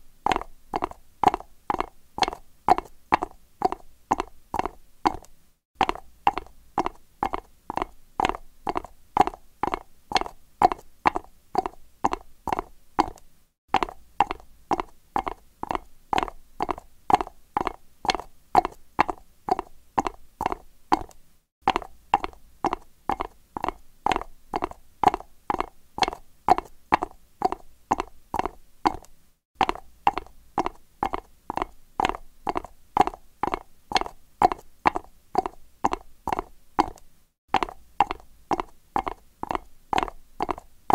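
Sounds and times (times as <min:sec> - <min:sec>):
horse hooves trotting on concrete: 0:00.3 - 0:40.9.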